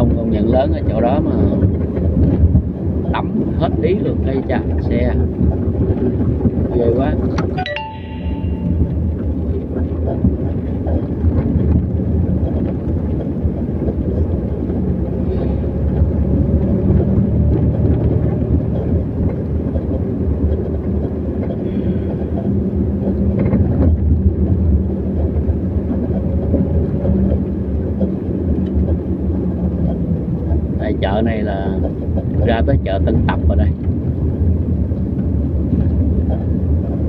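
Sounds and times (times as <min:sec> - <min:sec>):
car road and engine rumble: 0:00.0 - 0:37.0.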